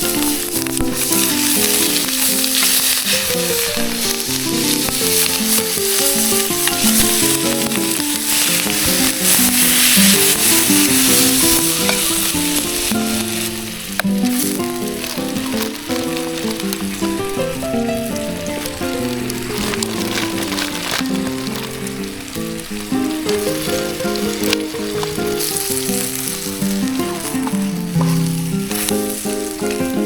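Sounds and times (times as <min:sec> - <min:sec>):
background music with held notes: 0:00.0 - 0:30.0
food sizzling in a pan: 0:00.0 - 0:30.0.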